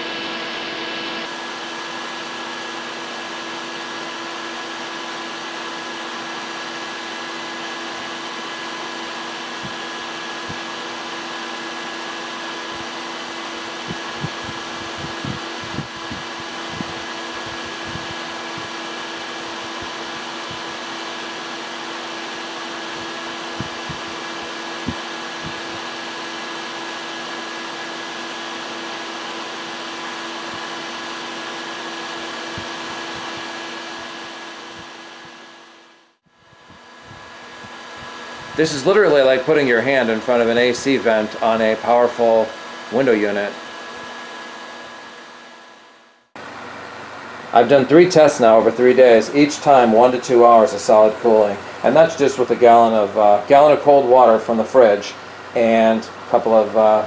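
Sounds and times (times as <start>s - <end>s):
electric fan whirring: 0.0s - 57.0s.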